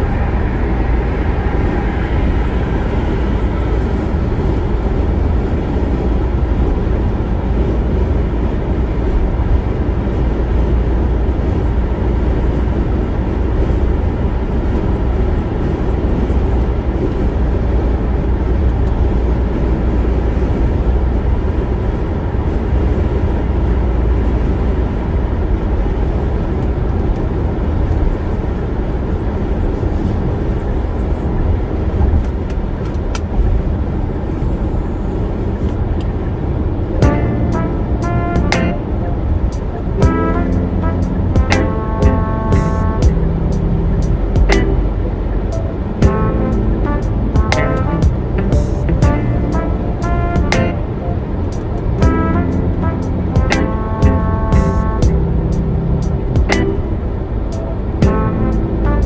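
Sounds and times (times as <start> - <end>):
car engine noise: 0.0 - 59.0.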